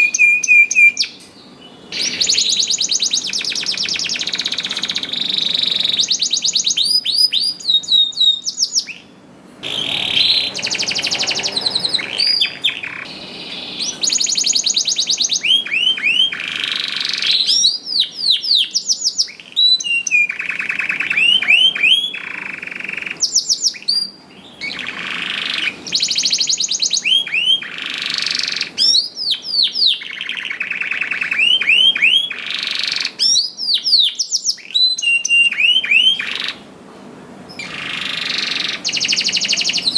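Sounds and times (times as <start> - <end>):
canary singing trills: 0.0 - 36.7, 37.5 - 39.9.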